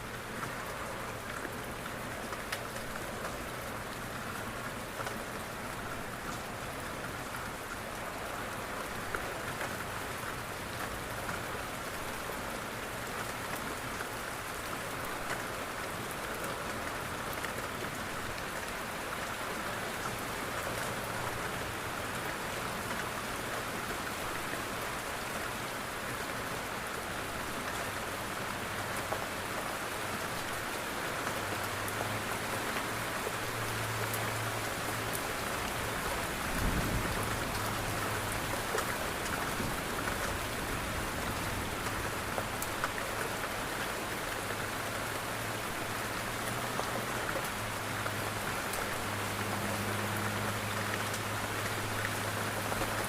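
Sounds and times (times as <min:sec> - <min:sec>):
rain on a window: 0:00.0 - 0:53.0.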